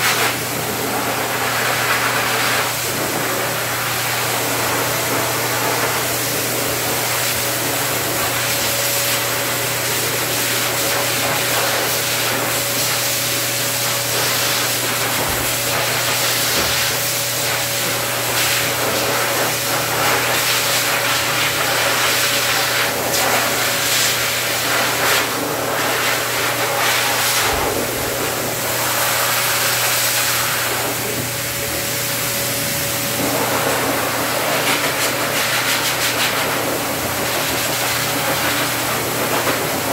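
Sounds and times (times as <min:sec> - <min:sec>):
grooming dryer blowing air: 0:00.0 - 0:39.9.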